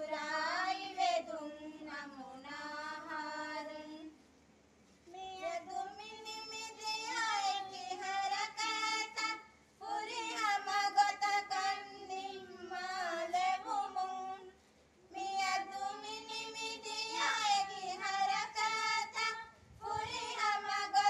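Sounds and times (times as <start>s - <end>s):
women singing together: 0.0s - 4.2s, 5.1s - 21.0s.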